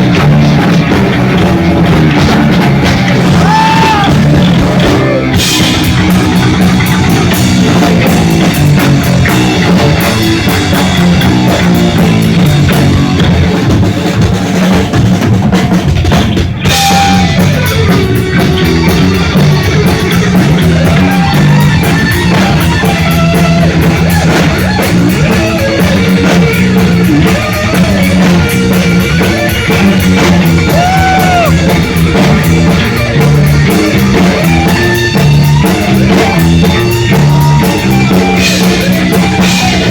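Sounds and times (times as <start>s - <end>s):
live heavy metal band: 0.0s - 39.9s.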